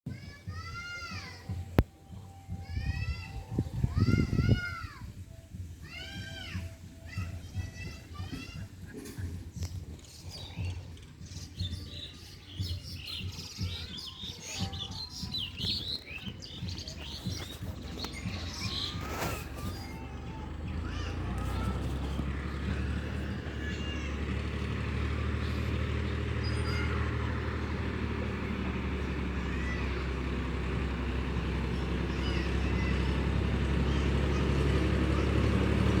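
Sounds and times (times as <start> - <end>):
engine humming steadily: 0.1 - 36.0
low uneven rumble: 0.1 - 36.0
small birds chirping: 5.8 - 36.0.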